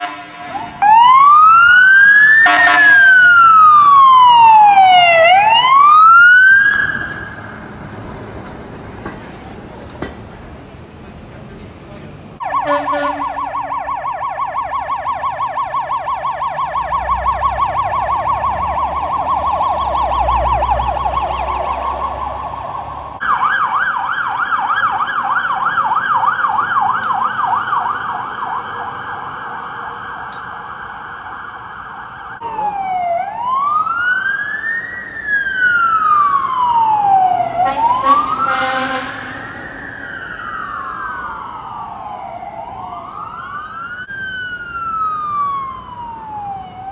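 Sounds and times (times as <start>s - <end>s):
fire engine siren warbling: 0.0s - 10.2s, 12.4s - 46.9s
truck engine rumble: 0.0s - 46.9s.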